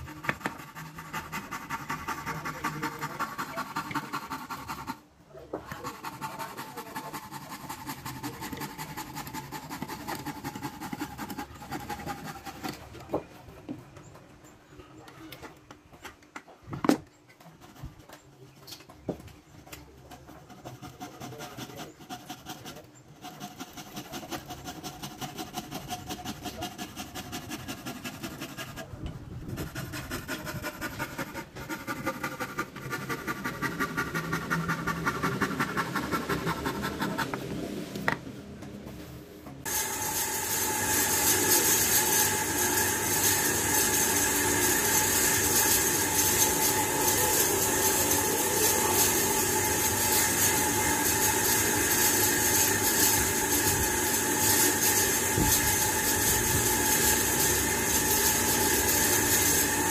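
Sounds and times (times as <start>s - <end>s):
rubbing strokes on wood: 0.0s - 13.1s, 19.6s - 37.7s, 39.6s - 59.9s.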